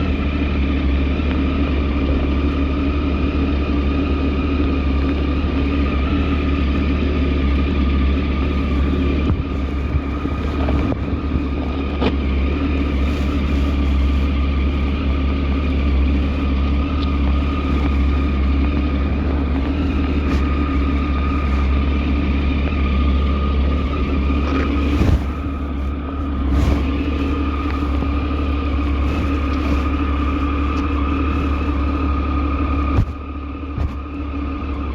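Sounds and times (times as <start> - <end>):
vehicle engine drone: 0.0 - 34.9.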